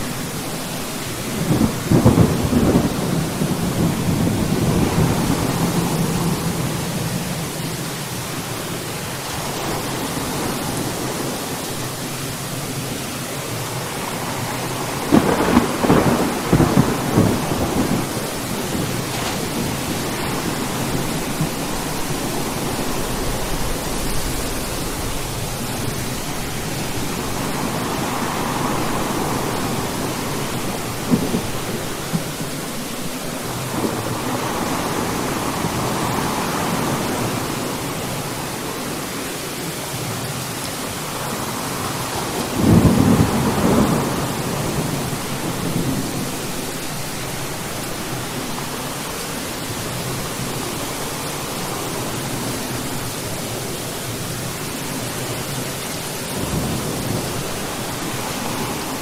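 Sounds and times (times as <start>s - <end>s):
steady rain: 0.0s - 59.0s
crackling thunder: 0.1s - 8.0s, 13.7s - 38.7s, 41.1s - 53.1s, 55.5s - 59.0s.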